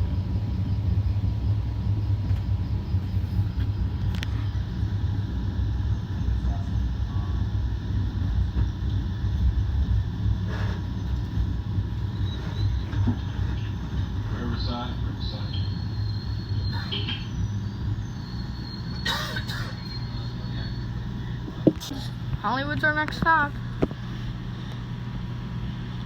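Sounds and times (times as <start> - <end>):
train coach rumble: 0.0 - 26.0.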